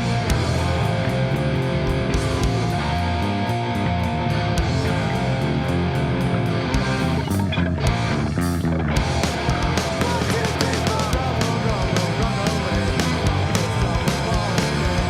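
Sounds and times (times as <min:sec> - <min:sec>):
distorted electric guitar: 0:00.0 - 0:15.0
rock band playing: 0:00.0 - 0:15.0.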